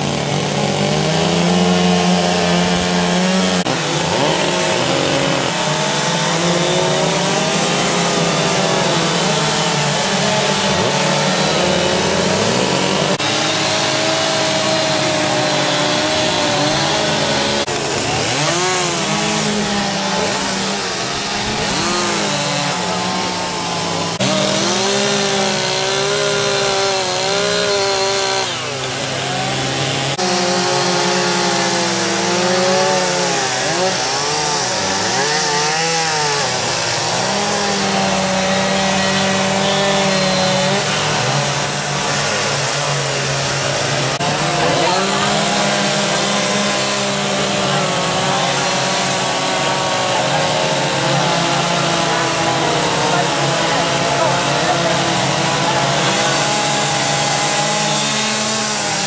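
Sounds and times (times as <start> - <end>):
chainsaws cutting wood: 0.0 - 59.0.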